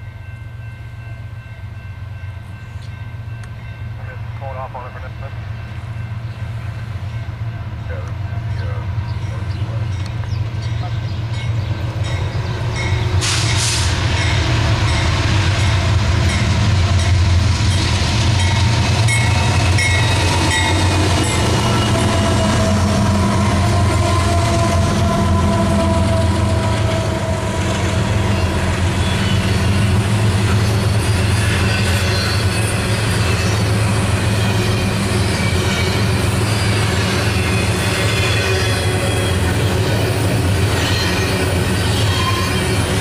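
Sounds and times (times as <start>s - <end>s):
diesel locomotive engine rumble: 0.0s - 43.0s
freight cars rolling on rails: 7.5s - 43.0s.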